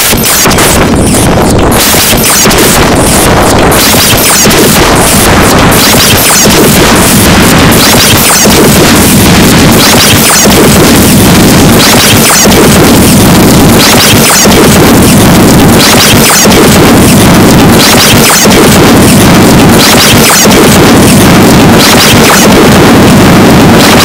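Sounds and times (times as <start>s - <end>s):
harsh industrial noise music: 0.0s - 24.0s.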